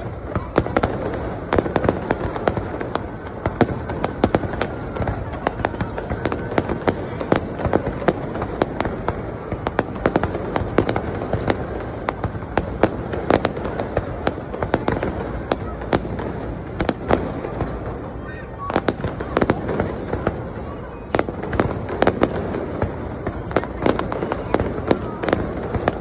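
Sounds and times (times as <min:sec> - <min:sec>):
fireworks bangs and crackles: 0:00.0 - 0:26.0
rumble of fireworks bursts: 0:00.0 - 0:26.0.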